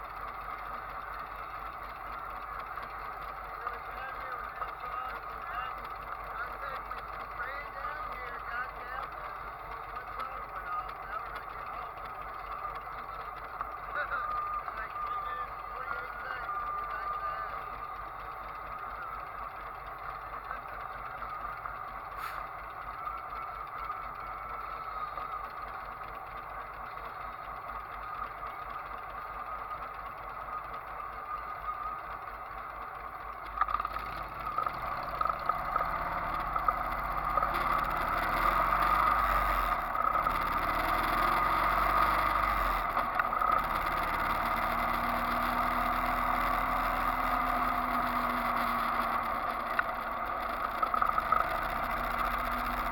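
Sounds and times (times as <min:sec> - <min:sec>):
motorcycle engines: 0:00.0 - 0:52.9
road noise: 0:00.0 - 0:52.9.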